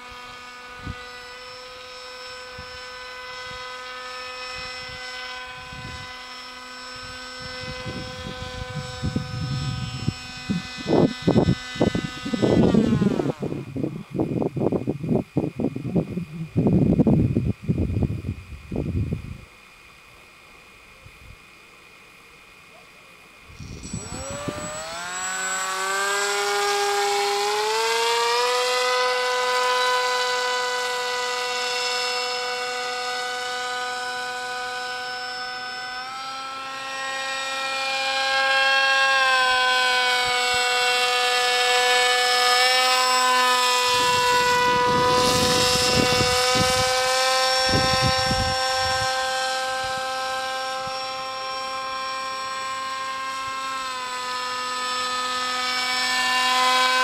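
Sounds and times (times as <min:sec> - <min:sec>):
paramotor engine droning: 0:00.0 - 0:57.0.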